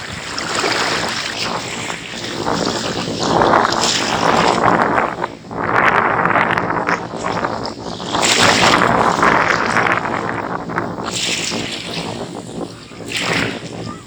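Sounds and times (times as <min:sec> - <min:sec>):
wind gusting against microphone: 0:00.0 - 0:14.0.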